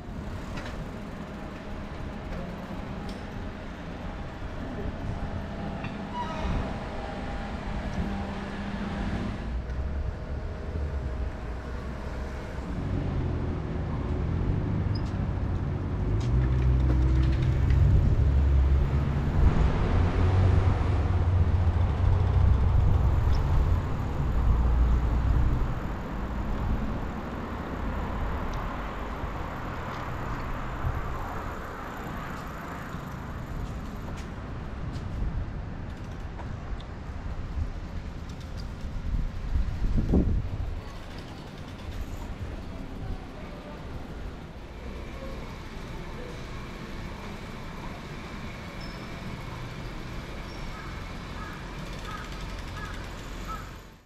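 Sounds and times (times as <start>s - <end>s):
street traffic: 0.0s - 54.0s.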